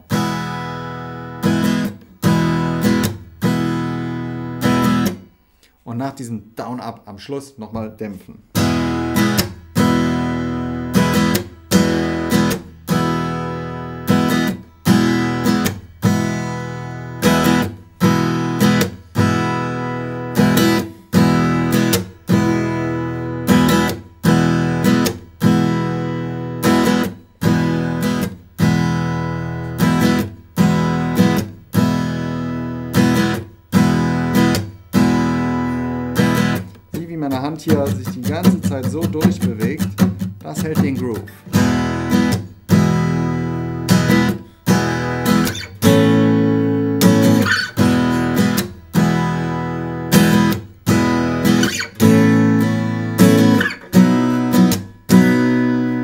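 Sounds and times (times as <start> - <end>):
acoustic guitar strumming: 0.0 - 5.8, 7.7 - 56.0.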